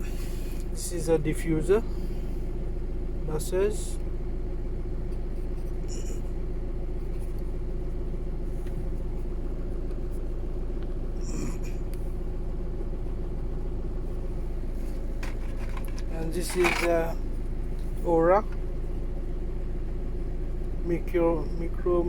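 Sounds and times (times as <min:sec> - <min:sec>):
constant hum tone: 0:00.0 - 0:22.0
low background rumble: 0:00.0 - 0:22.0.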